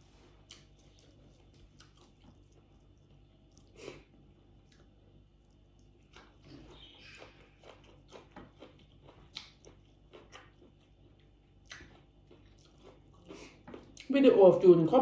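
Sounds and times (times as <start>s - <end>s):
faint chewing: 0.0s - 14.2s.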